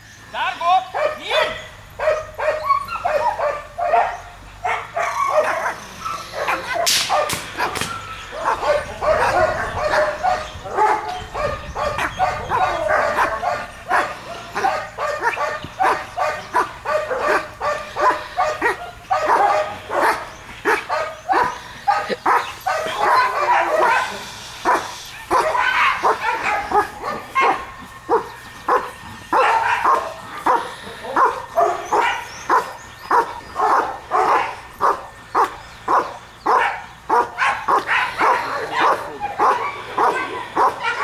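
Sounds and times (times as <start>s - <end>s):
dog barking rapidly: 0.9s - 41.0s.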